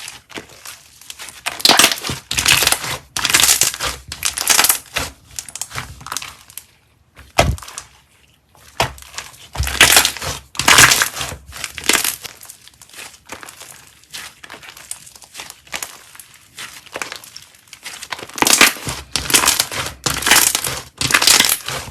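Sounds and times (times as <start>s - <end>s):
slime crackling and popping: 0.0s - 8.0s, 8.6s - 21.9s
slime squishes: 0.0s - 21.9s.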